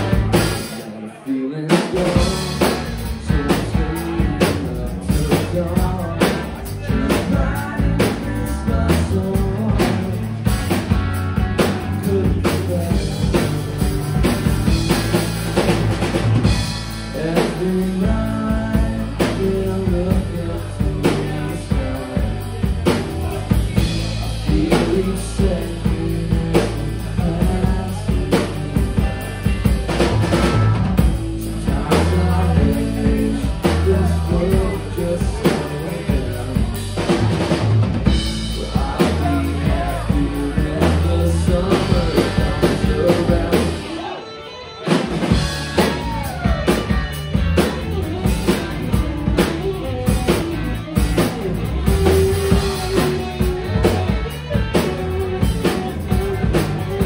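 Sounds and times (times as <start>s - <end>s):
drum kit: 0.0s - 1.1s, 1.7s - 44.2s, 44.8s - 57.0s
electric bass: 0.0s - 57.0s
electric guitars: 0.0s - 57.0s.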